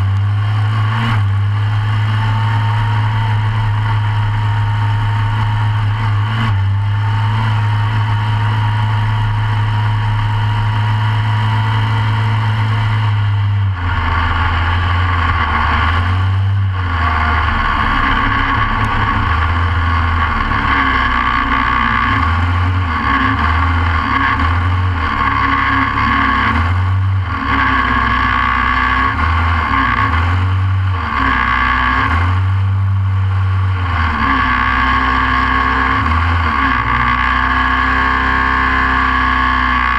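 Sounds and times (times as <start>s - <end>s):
kart engine idling and revving: 0.0s - 39.9s.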